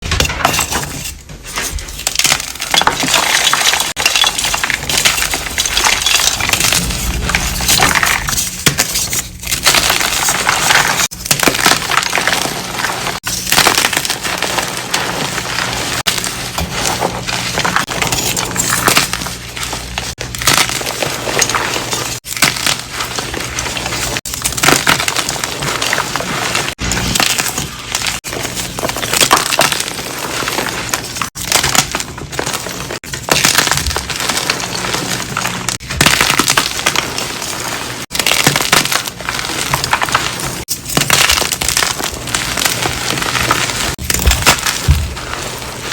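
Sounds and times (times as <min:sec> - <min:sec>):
chalk crunching and crackling: 0:00.9 - 0:45.9.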